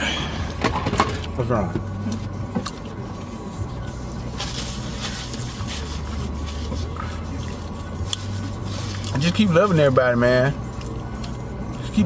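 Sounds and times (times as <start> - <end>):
car engine humming in cabin: 0.0 - 12.0.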